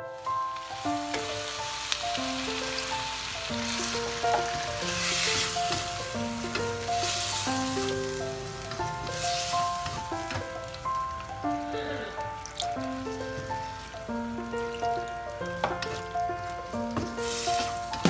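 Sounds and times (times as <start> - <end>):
background music with simple melody: 0.0 - 18.0
food sizzling in a frying pan: 0.0 - 18.0.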